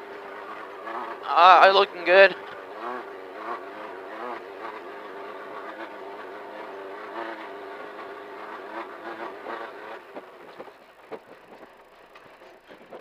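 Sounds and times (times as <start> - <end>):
race car engine running: 0.0 - 13.0.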